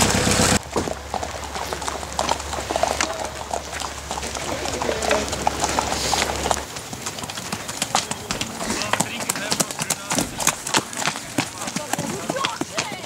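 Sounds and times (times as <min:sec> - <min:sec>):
horse hooves on gravel: 0:00.0 - 0:13.0.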